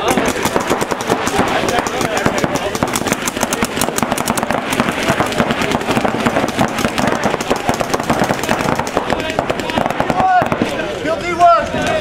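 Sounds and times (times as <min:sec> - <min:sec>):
paintball markers firing: 0:00.0 - 0:10.8.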